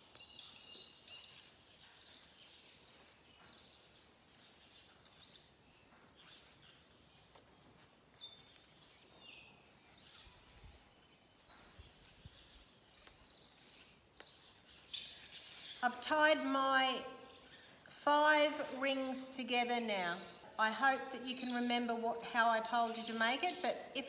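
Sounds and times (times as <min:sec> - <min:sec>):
background hiss: 0:00.0 - 0:24.0
faint birds chirping: 0:00.0 - 0:24.0.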